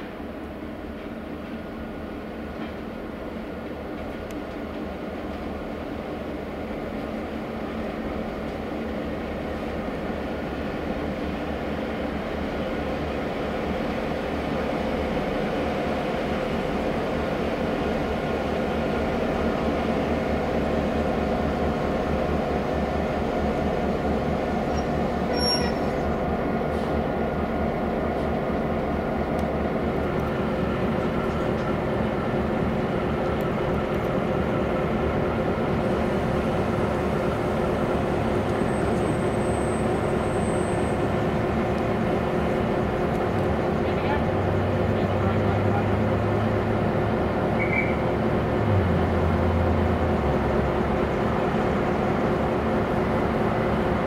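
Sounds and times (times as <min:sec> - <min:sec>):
diesel locomotives droning: 0:00.0 - 0:54.0.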